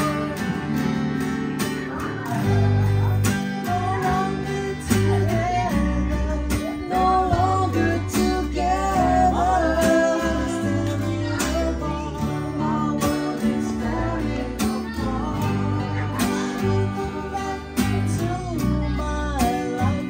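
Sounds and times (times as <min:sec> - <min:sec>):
acoustic guitars strumming: 0:00.0 - 0:20.0
electric bass line: 0:00.0 - 0:20.0.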